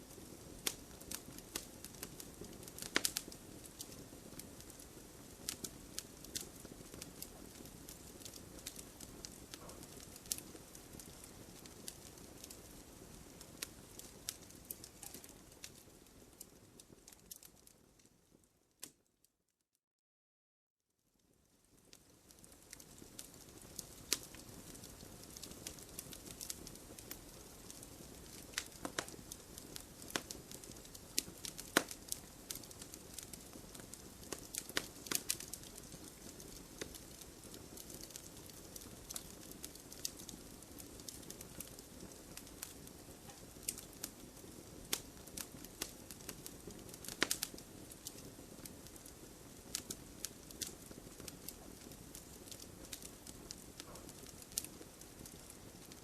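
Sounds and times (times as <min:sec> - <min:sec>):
firewood crackling and popping: 0:00.0 - 0:19.0, 0:21.2 - 0:56.0
campfire flames rushing: 0:00.1 - 0:17.5, 0:21.8 - 0:56.0.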